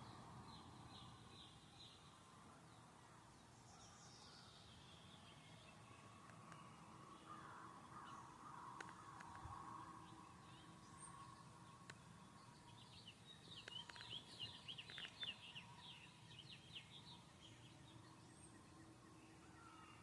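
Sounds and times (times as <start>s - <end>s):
songbird twittering: 3.6s - 20.0s.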